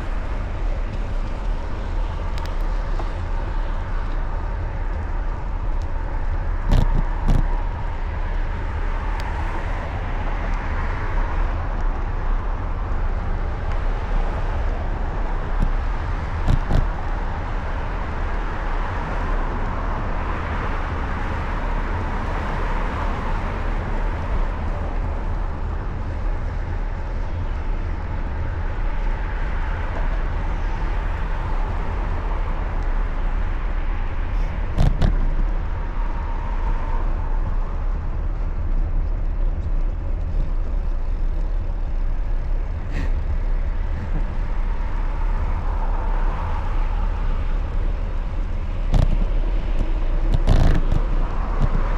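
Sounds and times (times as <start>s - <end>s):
street traffic: 0.0s - 51.9s
wind rumble on microphone: 0.0s - 51.9s.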